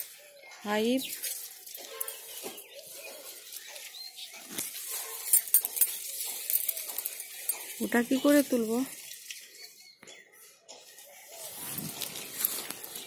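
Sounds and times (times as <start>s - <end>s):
leaves and twigs rustling: 0.0s - 10.0s, 10.7s - 13.0s.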